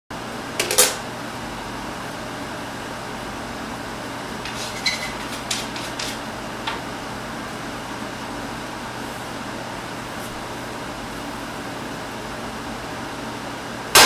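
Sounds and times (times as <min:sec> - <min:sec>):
room hum: 0:00.2 - 0:14.0.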